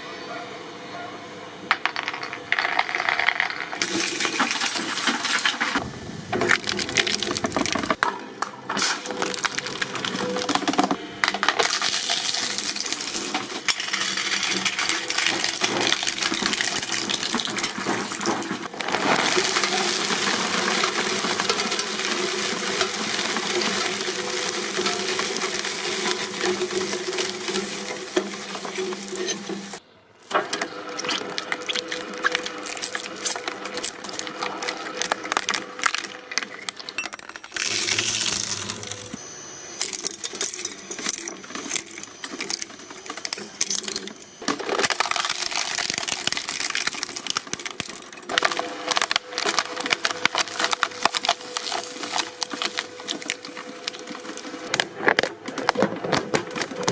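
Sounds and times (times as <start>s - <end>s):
shredding machine crunching: 3.8s - 56.9s.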